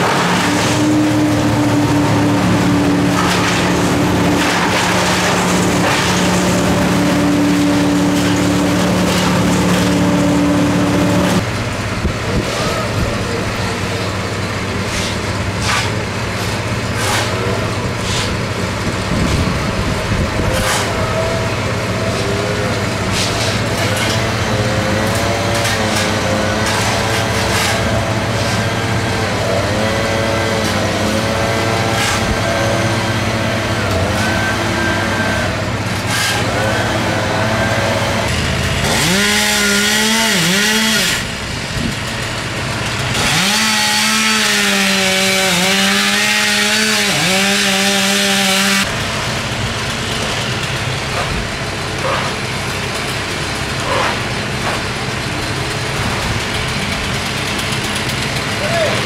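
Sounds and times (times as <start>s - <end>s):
chainsaw revving: 0.0s - 11.5s, 20.4s - 59.0s
engine running steadily: 0.0s - 44.3s, 45.2s - 59.0s.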